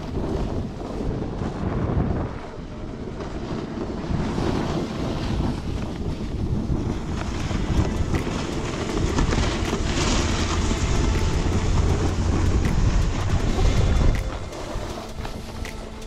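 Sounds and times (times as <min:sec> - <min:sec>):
snowboard sliding on packed snow: 0:00.0 - 0:16.0
wind buffeting microphone: 0:00.0 - 0:16.0.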